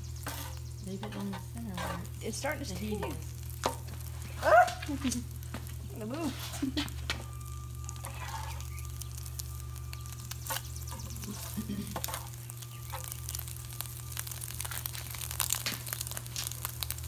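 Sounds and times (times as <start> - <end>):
pan crackling and sizzling: 0.0 - 17.0
steady low hum: 0.0 - 17.0.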